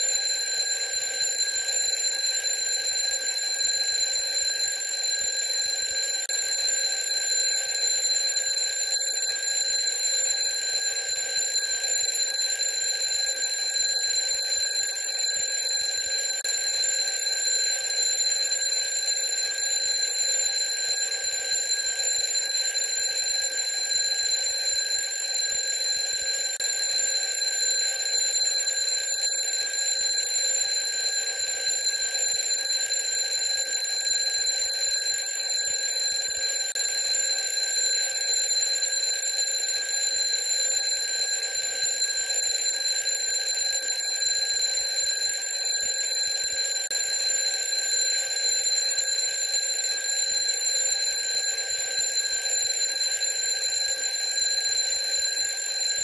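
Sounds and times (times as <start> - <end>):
twin-bell alarm clock ringing: 0.0 - 56.0.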